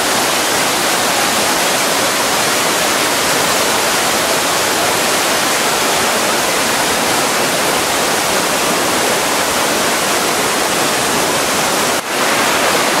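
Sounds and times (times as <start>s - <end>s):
waterfall rushing over rock: 0.0s - 13.0s.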